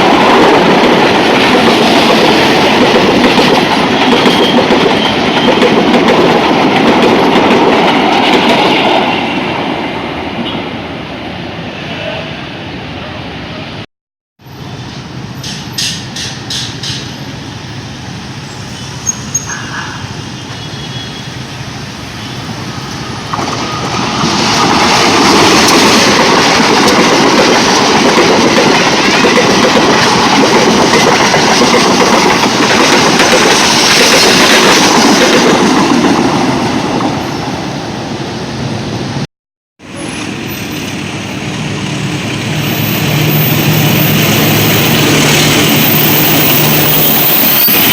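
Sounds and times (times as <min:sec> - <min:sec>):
train passing: 0:00.0 - 0:13.8, 0:14.4 - 0:47.9.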